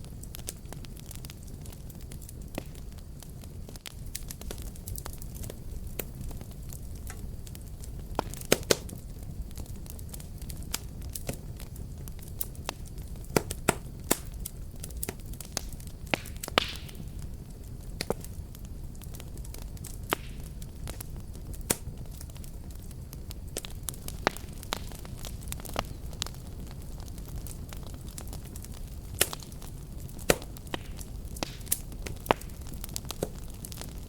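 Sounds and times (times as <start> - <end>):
fire crackles and pops: 0.0 - 34.0
low rumble of flames: 0.0 - 34.0.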